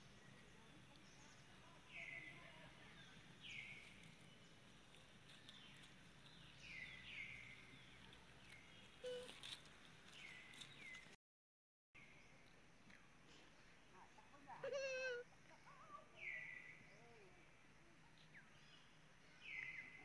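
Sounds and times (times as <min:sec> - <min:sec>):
outdoor background noise: 0:00.0 - 0:11.2, 0:12.0 - 0:20.0.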